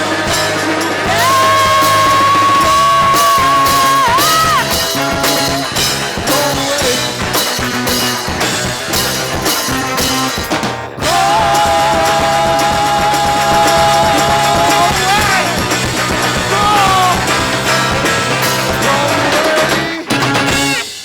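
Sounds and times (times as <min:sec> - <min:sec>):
live rock band playing: 0:00.0 - 0:21.0
steady drum beat: 0:00.0 - 0:21.0.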